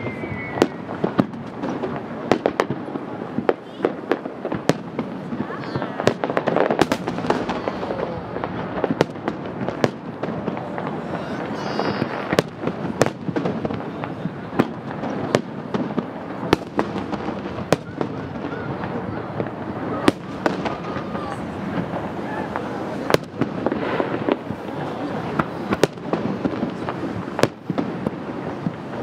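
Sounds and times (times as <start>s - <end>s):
murmur of crowd voices: 0.0s - 29.0s.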